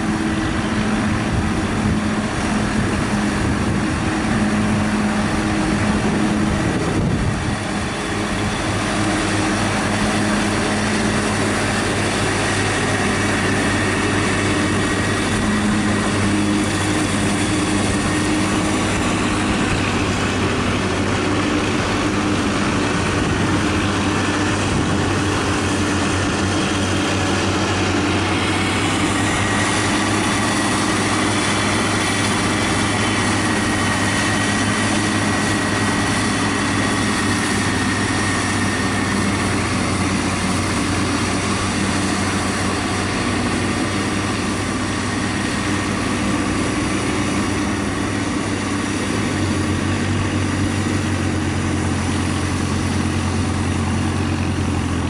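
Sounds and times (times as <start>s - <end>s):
engine drone: 0.0s - 55.0s.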